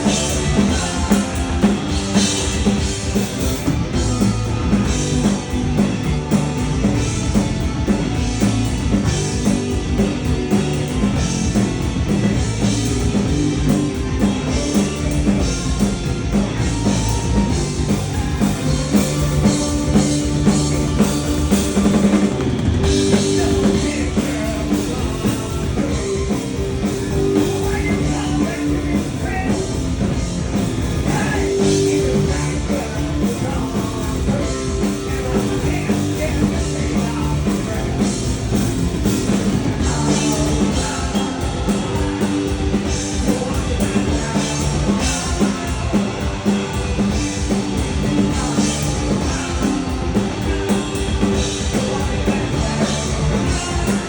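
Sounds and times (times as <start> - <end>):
bass guitar: 0.0 - 54.0
distorted guitars: 0.0 - 54.0
fast drum kit: 0.0 - 54.0.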